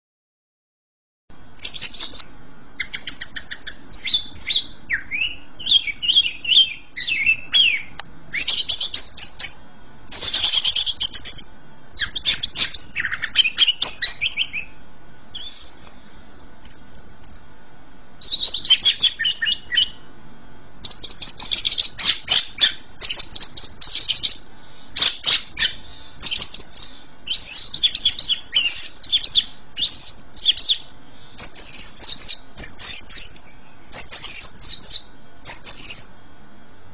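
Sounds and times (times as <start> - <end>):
bird singing chattering and whistles: 1.6 - 2.2, 2.8 - 17.5, 18.2 - 20.0, 20.8 - 36.2.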